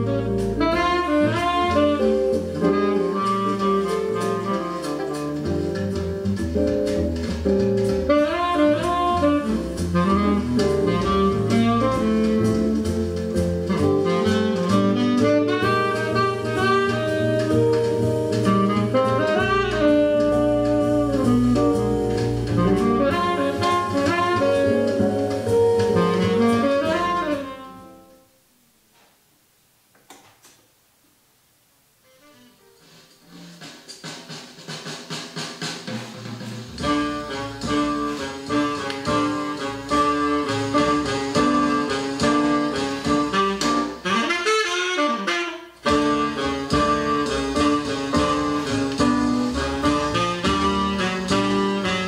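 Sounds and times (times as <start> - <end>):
jazz saxophone and double bass: 0.0 - 28.4, 32.0 - 52.0.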